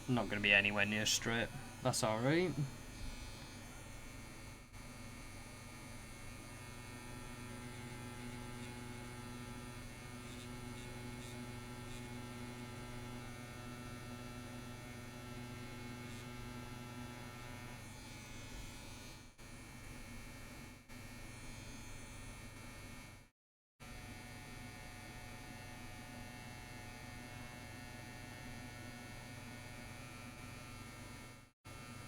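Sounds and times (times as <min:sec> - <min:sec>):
tattoo machine buzzing: 0:00.0 - 0:23.1, 0:23.8 - 0:32.0.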